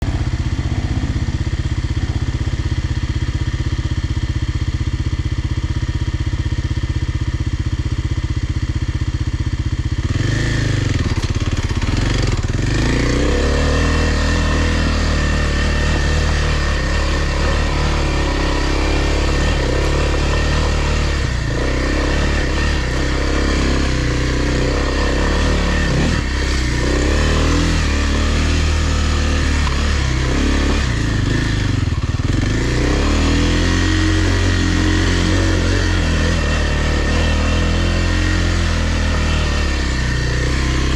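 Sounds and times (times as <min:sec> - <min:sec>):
dirt bike engine: 0:00.0 - 0:40.9.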